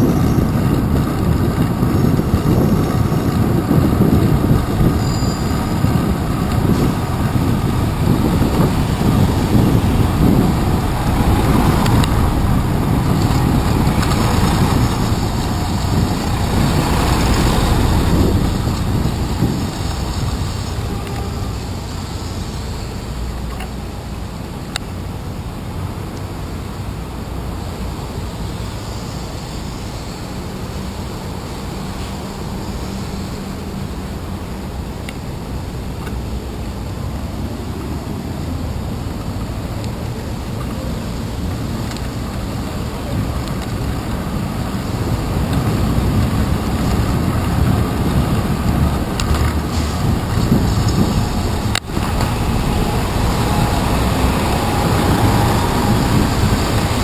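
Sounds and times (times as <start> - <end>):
motor traffic: 0.0 - 57.0
road noise: 0.0 - 57.0
wind noise: 0.0 - 57.0.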